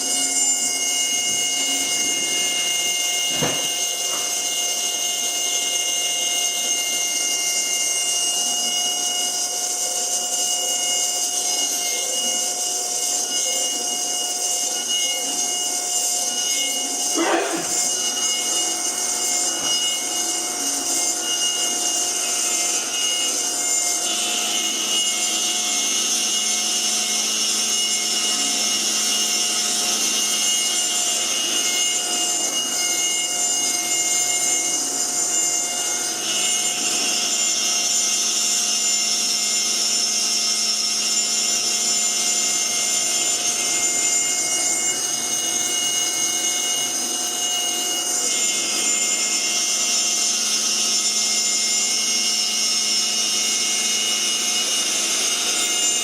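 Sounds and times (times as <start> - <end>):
bit cutting wood: 0.0 - 56.0
router spindle whine: 0.0 - 56.0.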